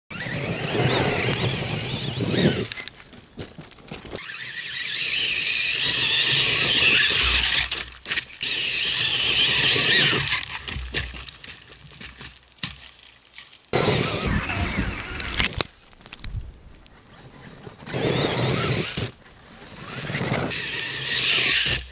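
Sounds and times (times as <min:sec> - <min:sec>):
tyres tearing at dirt: 0:00.1 - 0:21.9.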